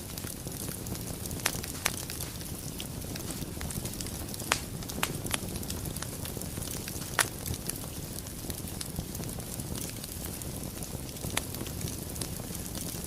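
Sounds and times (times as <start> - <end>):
fire crackles and pops: 0.0 - 13.0
fire rumble and hiss: 0.0 - 13.0.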